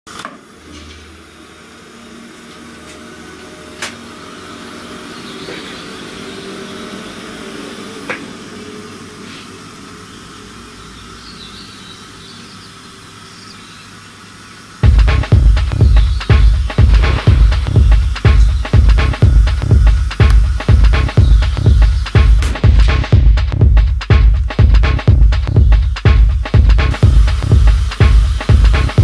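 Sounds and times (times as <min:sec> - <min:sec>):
low room hum: 0:00.4 - 0:29.0.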